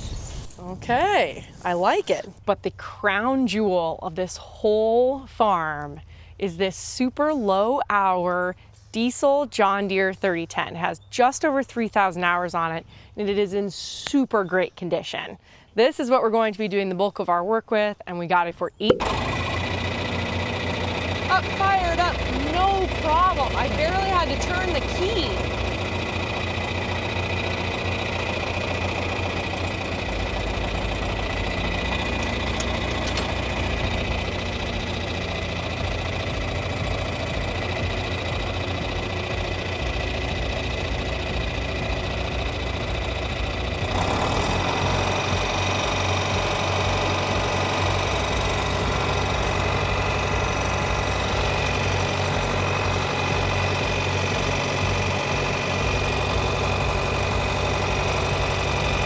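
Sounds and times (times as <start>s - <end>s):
tractor diesel engine running: 0.0s - 14.6s, 18.9s - 59.0s.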